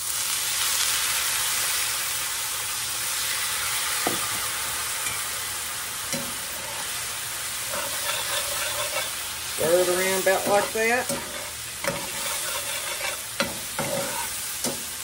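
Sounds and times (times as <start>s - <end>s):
water sizzling in hot pan: 0.0s - 15.0s.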